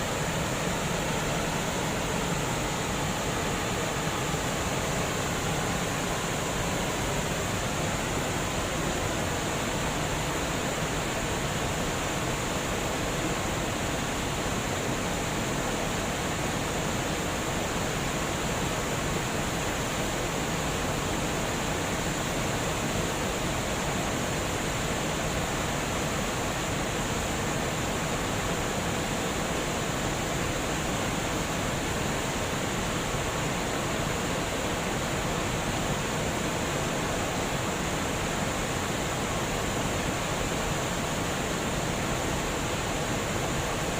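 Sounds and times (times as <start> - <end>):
water rushing over a dam: 0.0 - 43.9.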